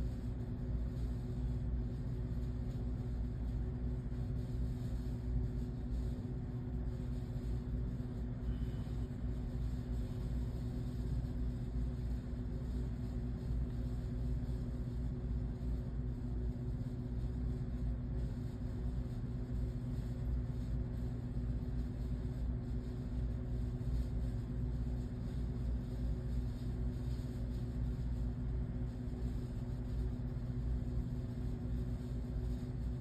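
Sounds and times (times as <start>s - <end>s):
motor running steadily: 0.0s - 33.0s.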